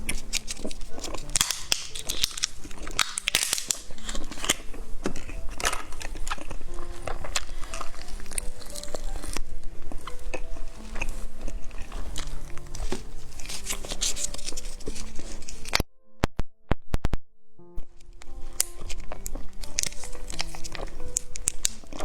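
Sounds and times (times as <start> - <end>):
mouth chewing gummy candies: 0.0 - 15.8, 18.0 - 22.0.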